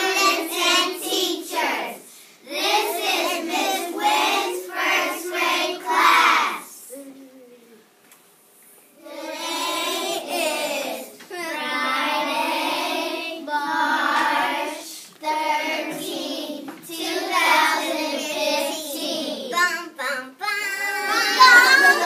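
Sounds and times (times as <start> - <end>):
young children singing: 0.0 - 7.0, 9.0 - 22.0.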